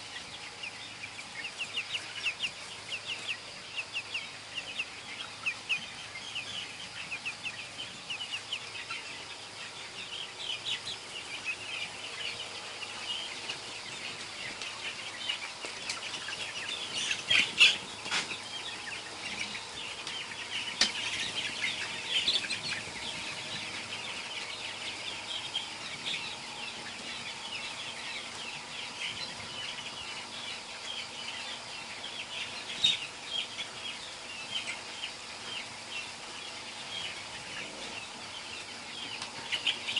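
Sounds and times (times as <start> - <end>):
chicks cheeping: 0.0 - 39.9.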